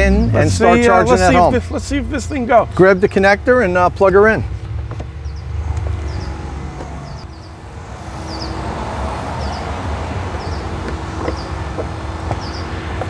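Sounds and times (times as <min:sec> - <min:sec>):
low rumble of distant traffic: 0:00.0 - 0:13.0.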